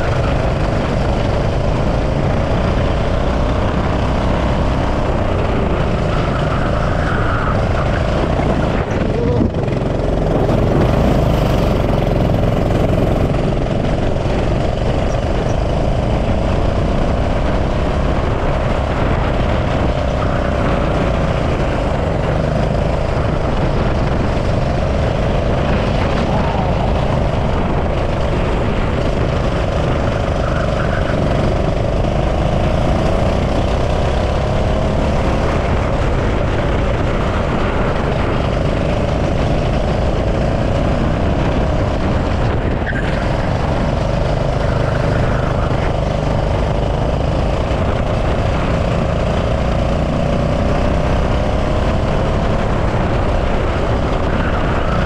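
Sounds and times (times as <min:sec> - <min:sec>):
go-kart engine revving: 0:00.0 - 0:55.0
rush of noise: 0:00.0 - 0:55.0.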